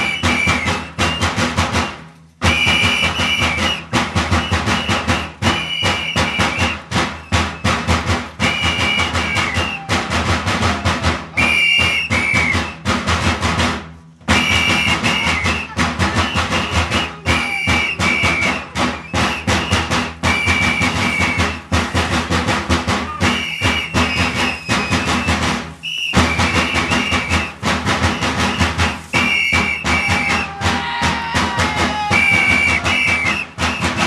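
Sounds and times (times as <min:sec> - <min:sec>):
drums beating fast rhythm: 0:00.0 - 0:34.0.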